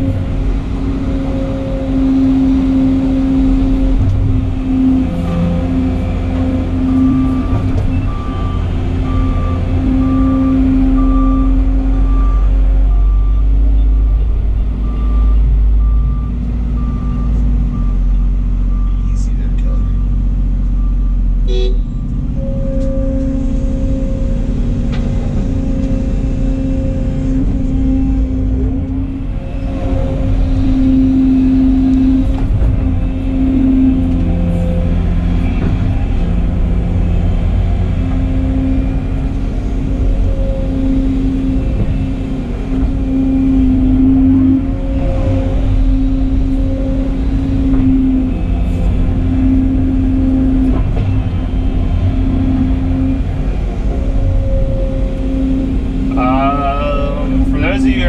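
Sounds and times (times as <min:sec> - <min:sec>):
diesel engine drone: 0:00.0 - 0:58.0
hydraulics humming: 0:00.0 - 0:58.0.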